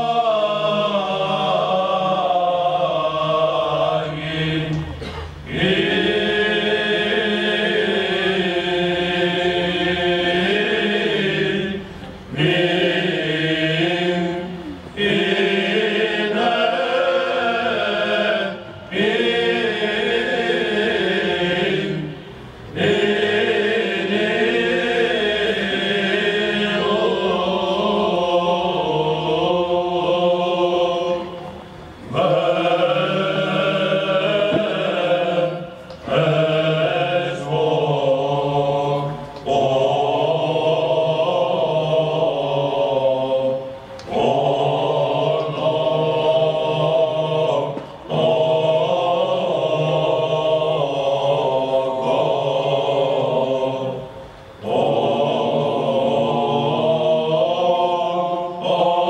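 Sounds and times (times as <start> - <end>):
low held vocal drone: 0.0 - 59.0
male choir chanting: 0.0 - 59.0.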